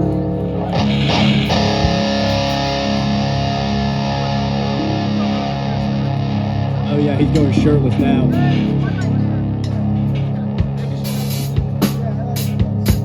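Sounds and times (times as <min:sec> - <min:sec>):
distorted electric guitar chord: 0:00.0 - 0:13.0.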